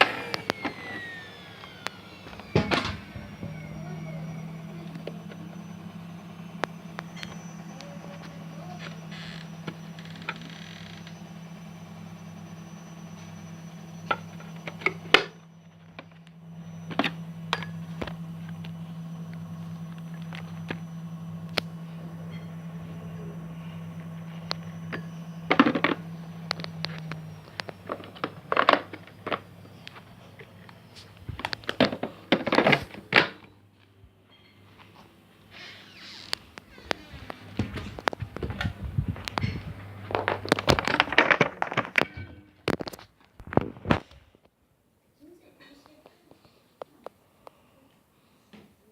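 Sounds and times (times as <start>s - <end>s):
steady low hum: 0.0s - 48.5s.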